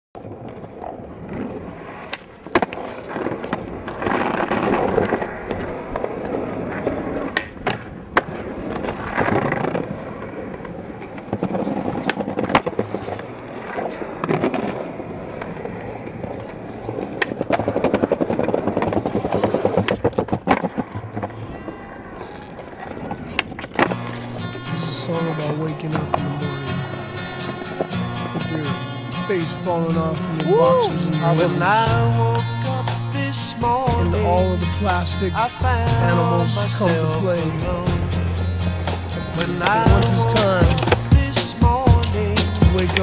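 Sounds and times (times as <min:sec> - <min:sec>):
skateboard clacking: 0:00.2 - 0:29.0, 0:32.8 - 0:43.0
skateboard wheels rolling on concrete: 0:00.2 - 0:43.0.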